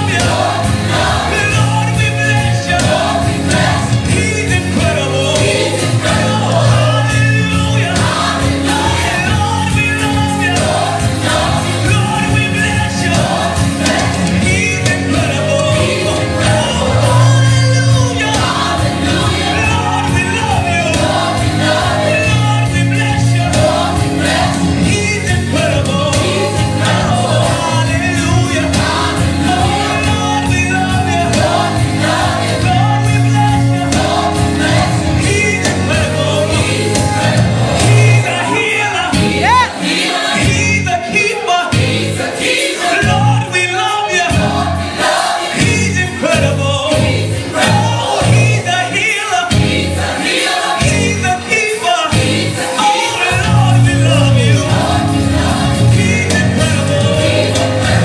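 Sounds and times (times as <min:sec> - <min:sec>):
band accompaniment with bass: 0:00.0 - 0:58.0
choir singing: 0:00.0 - 0:58.0.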